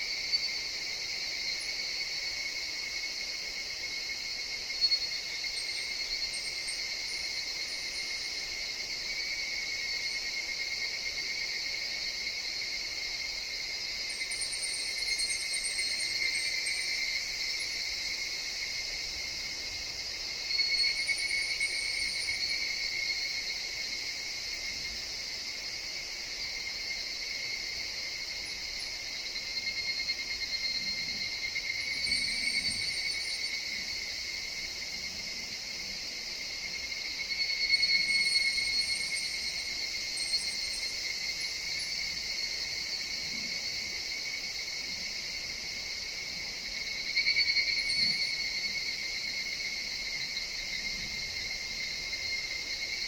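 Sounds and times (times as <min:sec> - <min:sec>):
cicadas chorus: 0:00.0 - 0:53.0.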